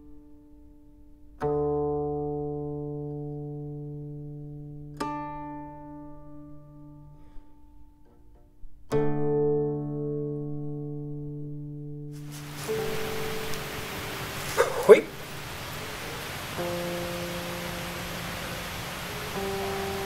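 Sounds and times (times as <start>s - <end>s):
plucked string chords: 1.4s - 7.3s, 7.9s - 20.0s.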